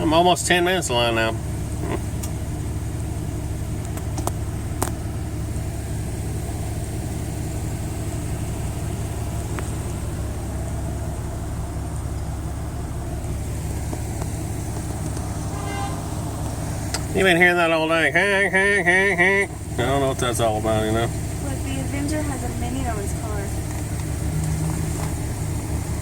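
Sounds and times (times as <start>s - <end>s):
car idling: 0.0s - 26.0s.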